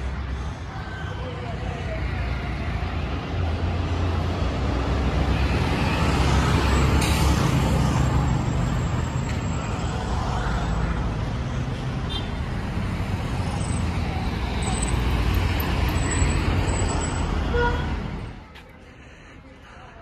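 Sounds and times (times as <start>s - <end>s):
vehicle engines: 0.0s - 20.0s.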